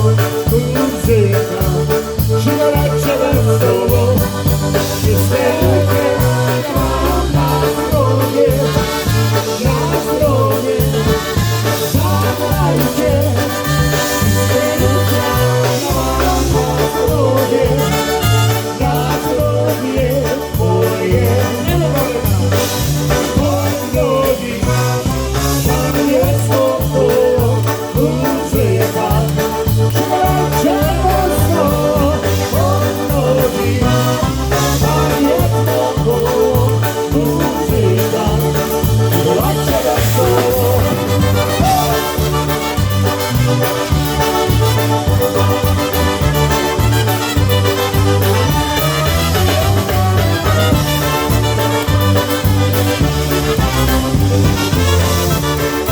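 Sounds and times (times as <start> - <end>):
polka band playing: 0.0 - 55.9.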